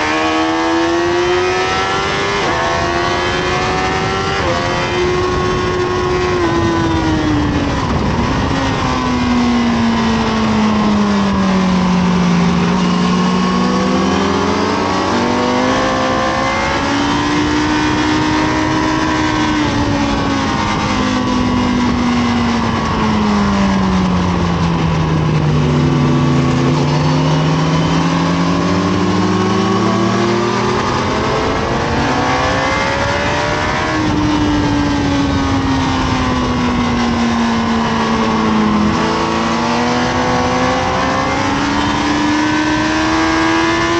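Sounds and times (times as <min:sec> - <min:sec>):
motorcycle engine accelerating and braking: 0:00.0 - 0:43.9
wind rush: 0:00.0 - 0:43.9.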